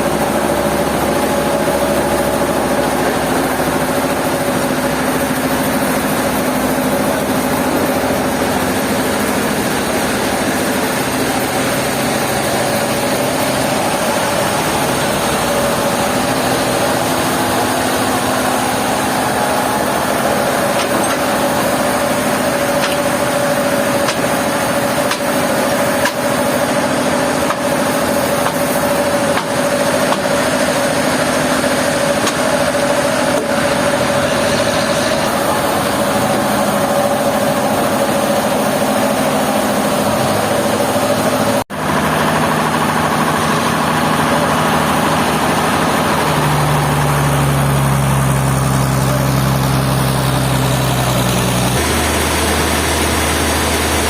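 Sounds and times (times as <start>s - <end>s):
deeper machine hum: 0.0s - 54.0s
sawmill machinery humming: 0.0s - 54.0s.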